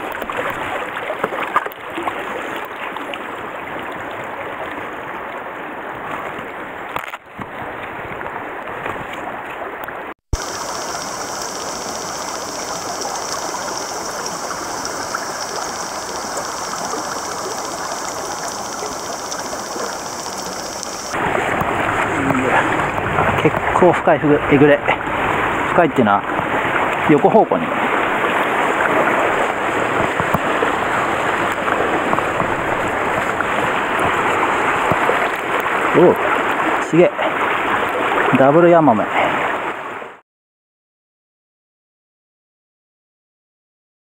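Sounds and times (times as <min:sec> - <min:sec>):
stream flowing over stones: 0:00.0 - 0:40.2.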